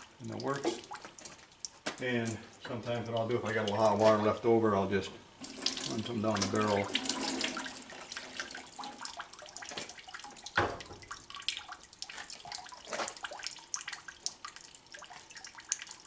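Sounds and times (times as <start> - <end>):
water trickling and dripping: 0.0 - 4.5, 5.3 - 16.0.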